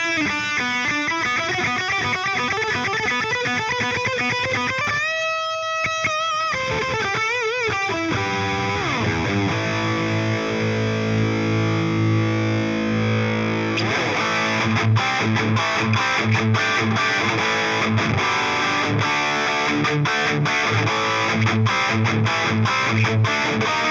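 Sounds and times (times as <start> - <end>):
distorted electric guitar: 0.0 - 23.9.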